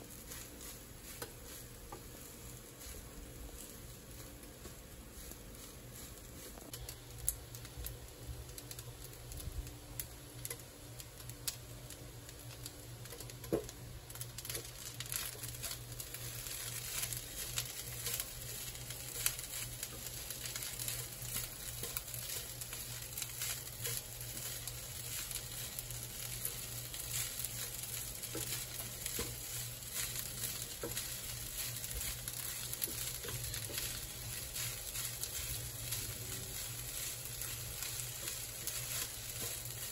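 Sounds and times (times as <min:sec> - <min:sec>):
rice sizzling: 0:00.0 - 0:39.9
spatula scraping and tapping pan: 0:00.2 - 0:06.8, 0:14.4 - 0:39.9.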